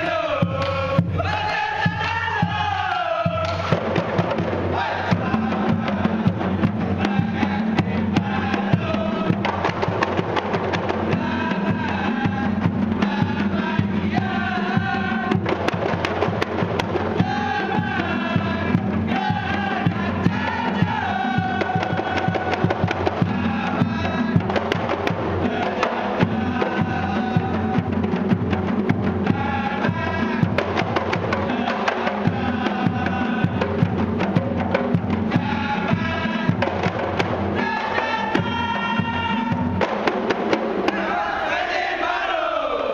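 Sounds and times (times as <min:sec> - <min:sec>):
men singing together: 0:00.0 - 0:40.0, 0:40.8 - 0:42.9
frame drums beating sharp slaps: 0:00.4 - 0:41.2.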